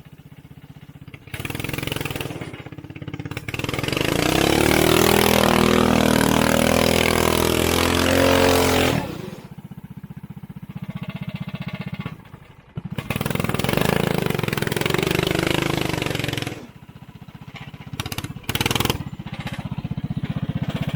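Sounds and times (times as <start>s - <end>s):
go-kart engine revving and idling: 0.0s - 20.9s.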